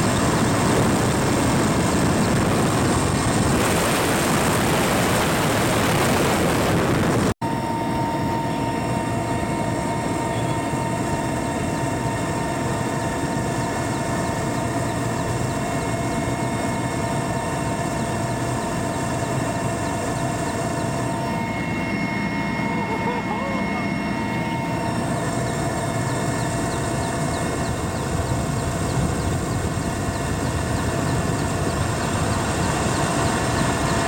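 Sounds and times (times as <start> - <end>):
constant engine whine: 0.0 - 34.0
helicopter rotor and engine roar: 0.0 - 34.0.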